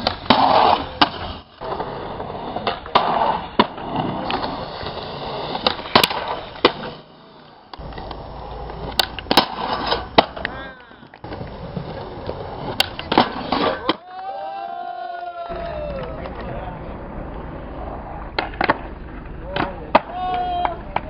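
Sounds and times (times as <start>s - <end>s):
skateboard clacking: 0.0s - 14.2s, 15.5s - 21.0s
skateboard wheels rolling: 0.0s - 21.0s.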